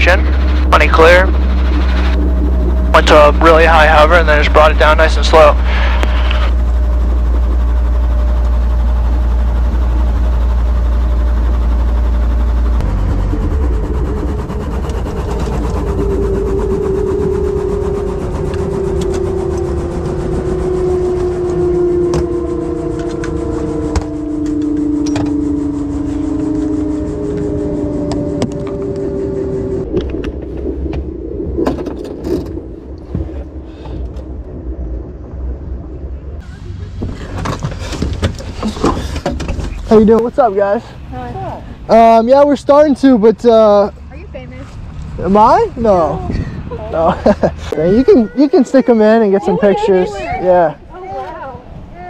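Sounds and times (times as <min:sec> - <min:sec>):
helicopter engine rumble: 0:00.0 - 0:52.0
rotor winding down whine: 0:00.0 - 0:52.0.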